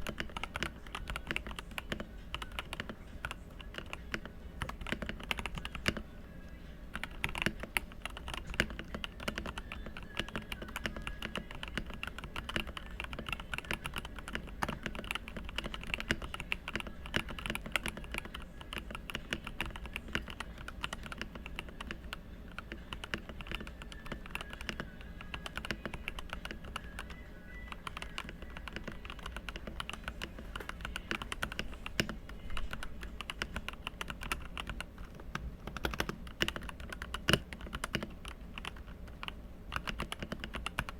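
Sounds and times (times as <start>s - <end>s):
mechanical keyboard typing: 0.0s - 6.1s, 6.9s - 40.9s.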